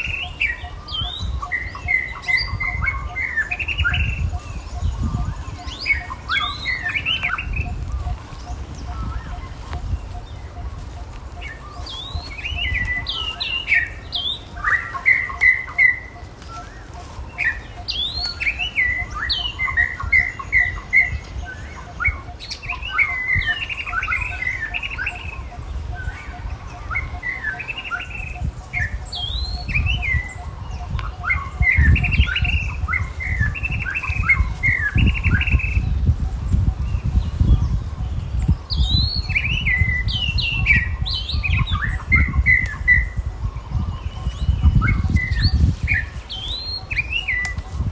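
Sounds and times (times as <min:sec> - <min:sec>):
high-pitched chirping calls: 0:00.0 - 0:47.9.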